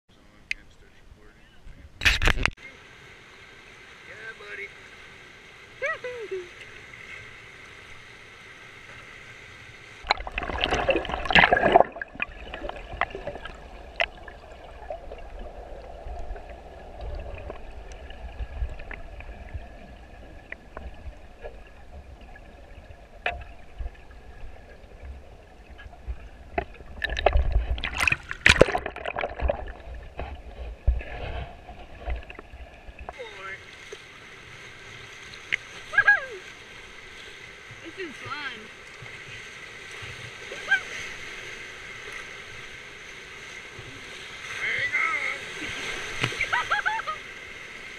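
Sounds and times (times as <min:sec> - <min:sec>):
river water splashing: 0:02.6 - 0:47.9.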